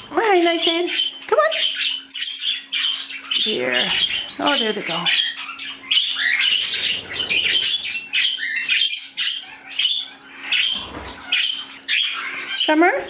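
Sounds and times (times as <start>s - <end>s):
parakeets chirping and squawking: 0.0s - 13.0s.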